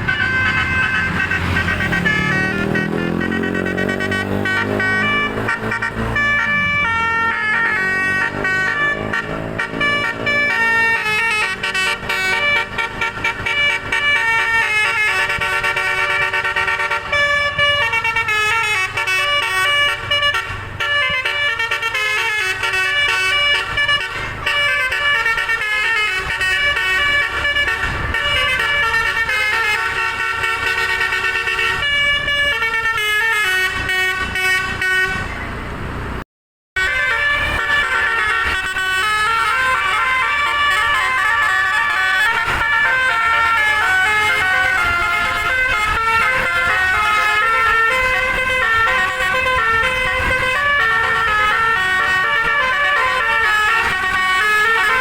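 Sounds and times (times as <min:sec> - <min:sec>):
musical air horn playing a tune: 0:00.0 - 0:35.4, 0:36.8 - 0:55.0.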